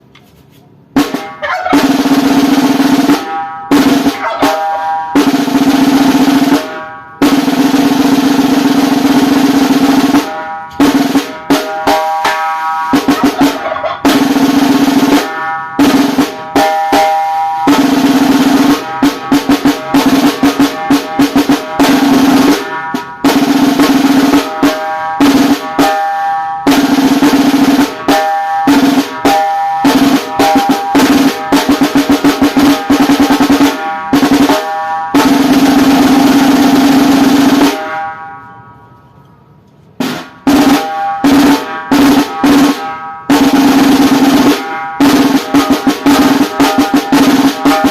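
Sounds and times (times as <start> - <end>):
snare drum rolls and strokes: 0.0 - 38.2, 39.9 - 47.9.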